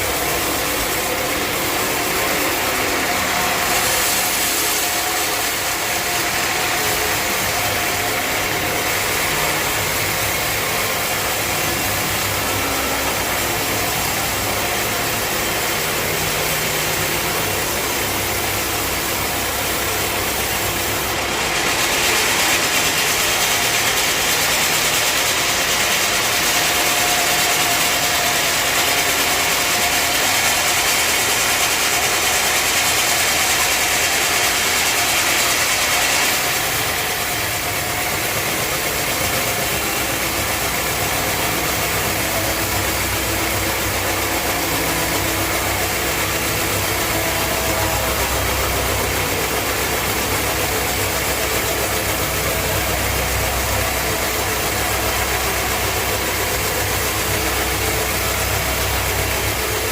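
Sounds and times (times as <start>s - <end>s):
sawmill engine hum: 0.0s - 59.9s.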